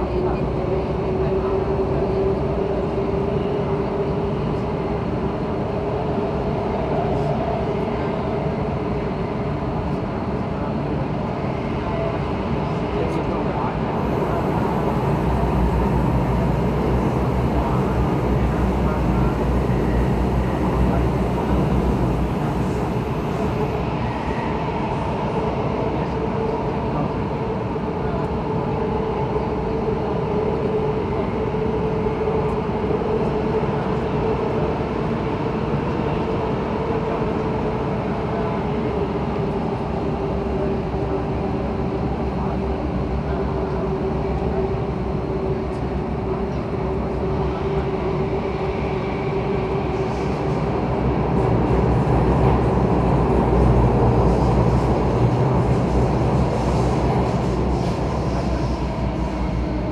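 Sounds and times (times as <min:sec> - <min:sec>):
metro train rumble and whine: 0:00.0 - 0:59.9.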